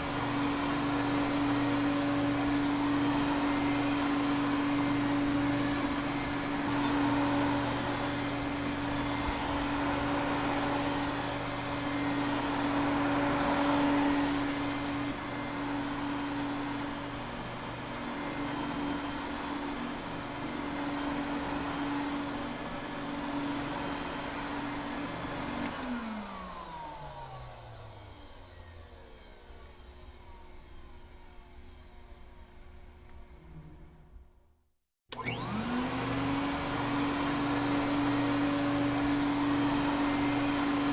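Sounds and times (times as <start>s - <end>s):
vacuum cleaner motor running: 0.0s - 34.1s, 35.1s - 40.9s.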